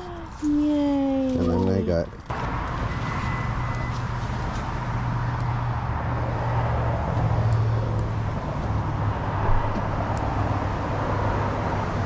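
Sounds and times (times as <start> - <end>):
minivan engine hum: 0.0 - 12.0
road noise: 0.0 - 12.0.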